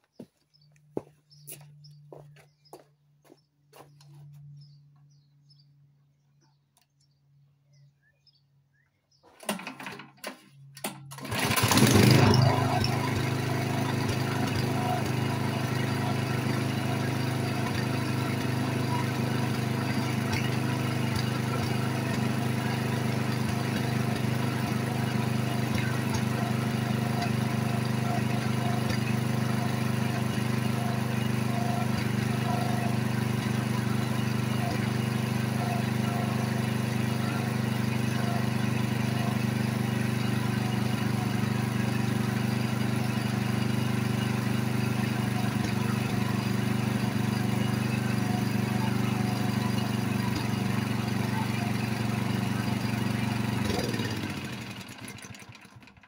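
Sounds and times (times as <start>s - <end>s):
petrol engine starting and running: 9.2s - 56.0s.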